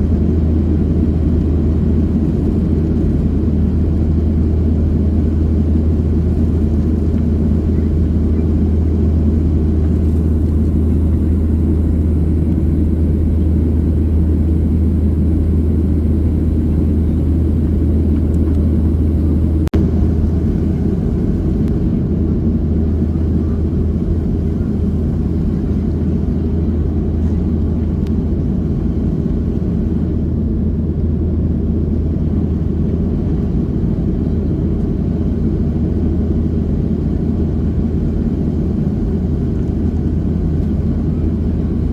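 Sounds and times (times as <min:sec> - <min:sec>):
jet airliner cabin noise: 0:00.0 - 0:41.9.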